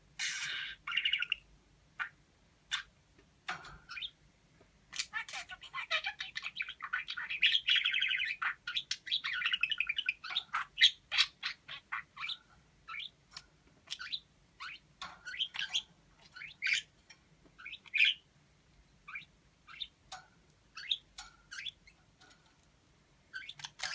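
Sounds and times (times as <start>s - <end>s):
parakeet chattering: 0.2s - 2.9s, 4.9s - 17.0s, 17.6s - 18.3s, 19.0s - 22.2s, 23.3s - 23.9s
parakeet chirps and clicks: 0.2s - 4.2s, 4.9s - 23.9s.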